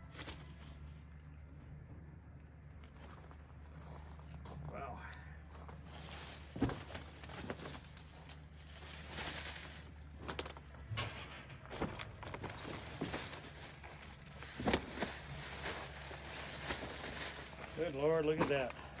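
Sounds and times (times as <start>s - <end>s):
handling knocks and rustles: 0.0s - 1.9s, 5.5s - 19.0s
low hum: 0.0s - 17.8s.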